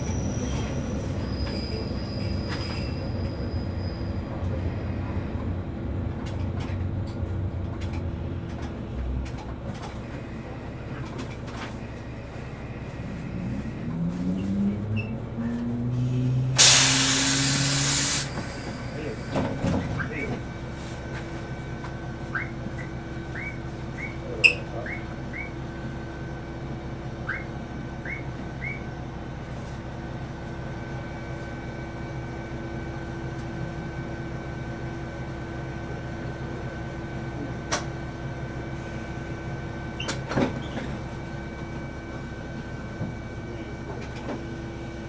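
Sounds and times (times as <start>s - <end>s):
train electric hum: 0.0s - 45.0s.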